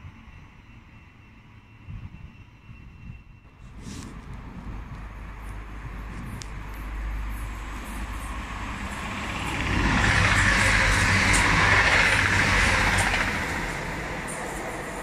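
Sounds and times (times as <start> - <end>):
passenger train passing at speed: 0.0 - 15.0.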